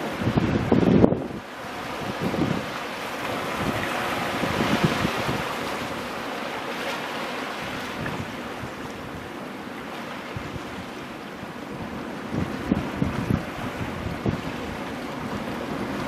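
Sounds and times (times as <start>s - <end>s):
wind buffeting microphone: 0.0s - 6.2s, 7.6s - 9.3s, 10.2s - 16.0s
waves breaking over rocks: 0.0s - 16.0s.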